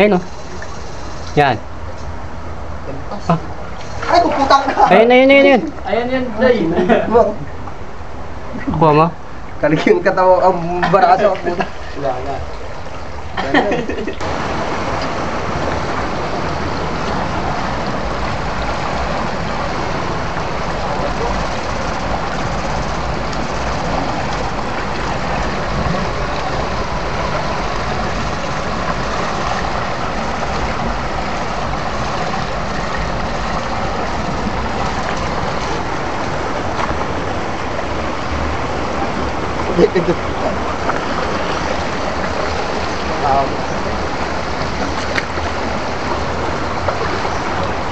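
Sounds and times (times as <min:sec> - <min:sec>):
water rushing over rocks: 0:07.6 - 0:47.9.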